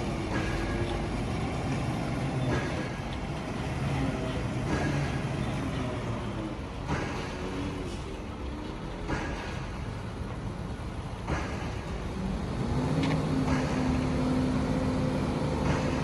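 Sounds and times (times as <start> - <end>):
heavy machinery engines running: 0.0 - 16.0
knocks and clanks: 0.0 - 16.0.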